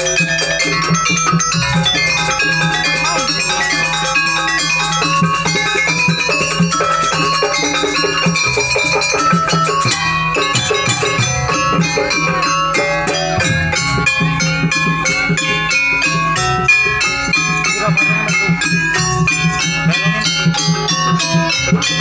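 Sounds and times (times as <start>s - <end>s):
drums: 0.0s - 22.0s
metal-keyed gamelan melody: 0.0s - 22.0s.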